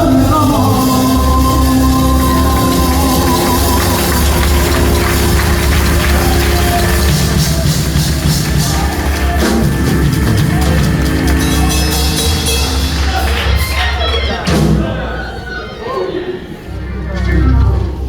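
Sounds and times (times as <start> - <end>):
heavy bass line: 0.0 - 15.0, 16.7 - 18.0
live gospel band playing: 0.0 - 15.4.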